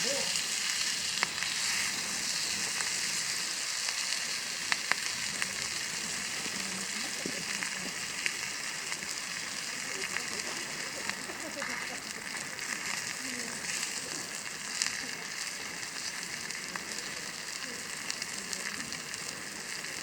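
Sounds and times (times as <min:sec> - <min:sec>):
food sizzling in a hot pan: 0:00.0 - 0:20.0.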